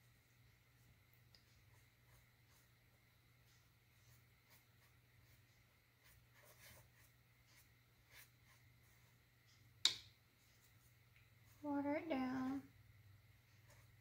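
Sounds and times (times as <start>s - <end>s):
paintbrush dabbing on canvas: 0.2s - 11.6s.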